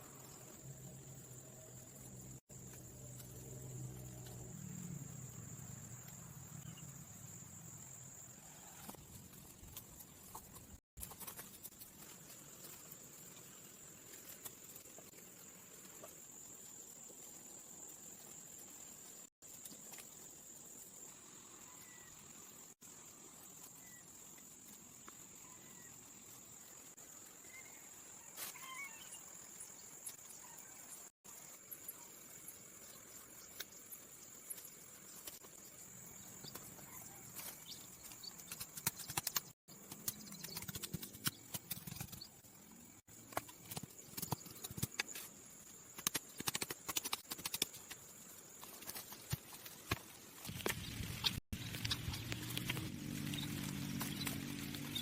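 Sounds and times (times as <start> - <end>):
cricket trill: 0.0 - 55.0.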